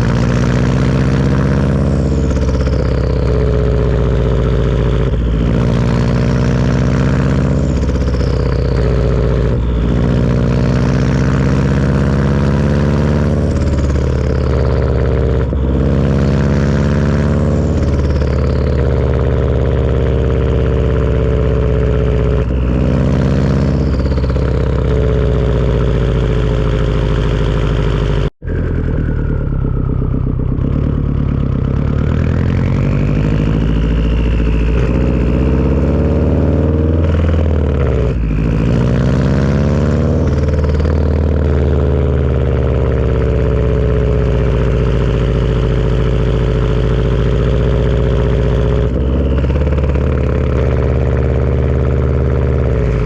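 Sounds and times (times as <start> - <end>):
car engine accelerating: 0.0 - 53.0
turbo whistle: 0.0 - 53.0.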